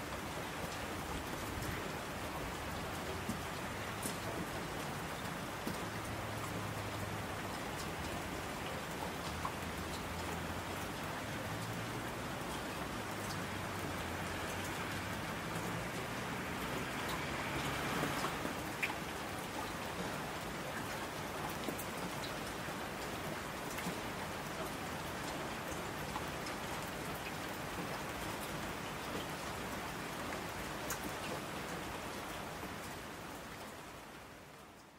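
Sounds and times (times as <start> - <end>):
steady rain: 0.0 - 34.9
raindrop ticks: 2.7 - 29.5, 30.3 - 33.6.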